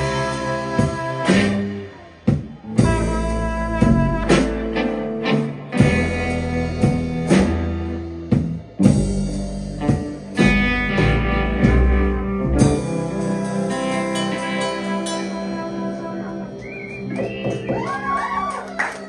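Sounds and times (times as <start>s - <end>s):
sustained guitar chords: 0.0s - 17.8s
bass guitar: 0.0s - 19.0s.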